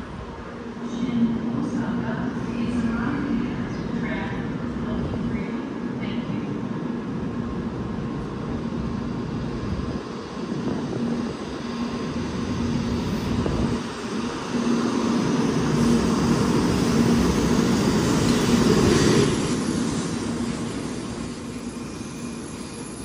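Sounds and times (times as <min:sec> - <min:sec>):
train low hum: 0:00.0 - 0:23.0
train rushing noise: 0:00.0 - 0:23.0.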